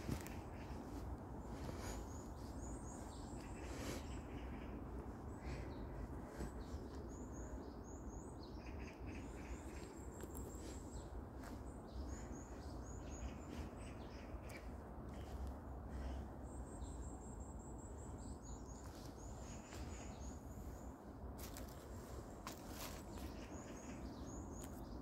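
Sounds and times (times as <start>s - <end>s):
outdoor ambience hiss: 0.0s - 25.0s
songbirds chirping: 0.0s - 25.0s.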